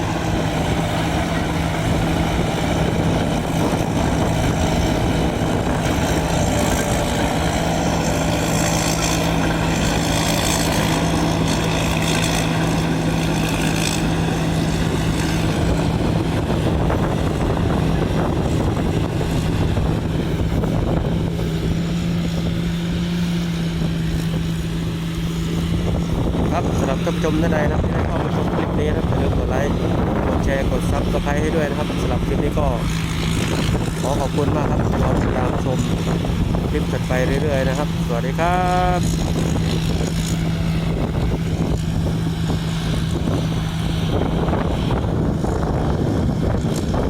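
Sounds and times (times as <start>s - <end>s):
combine harvester engine drone: 0.0s - 47.0s.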